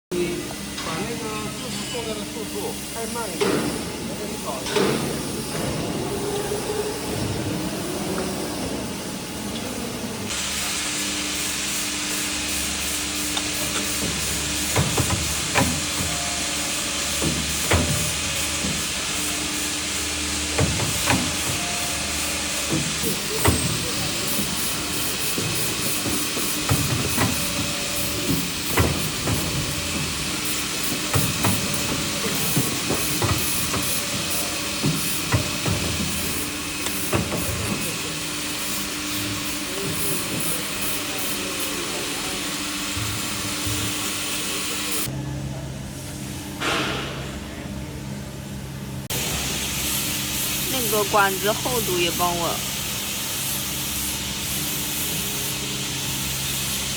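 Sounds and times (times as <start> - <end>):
pipe bending machine humming: 0.1 - 45.2, 49.1 - 56.9.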